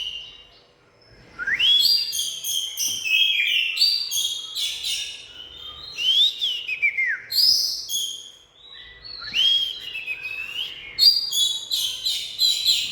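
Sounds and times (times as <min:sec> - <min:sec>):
bird singing whistled phrases: 0:01.4 - 0:12.9.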